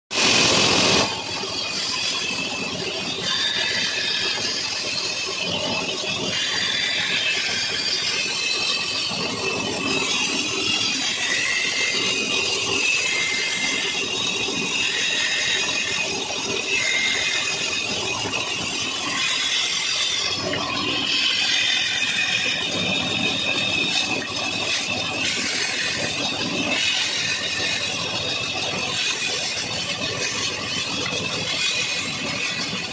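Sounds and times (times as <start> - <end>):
band saw cutting wood: 0.1 - 32.9.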